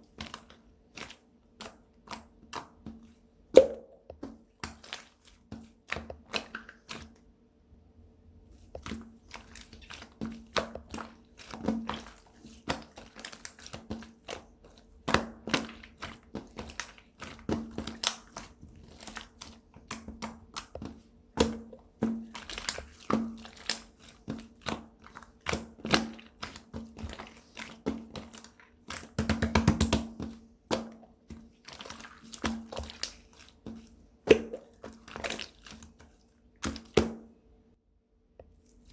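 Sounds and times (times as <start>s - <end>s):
slime squishing and popping: 3.6s - 7.2s, 8.6s - 37.2s.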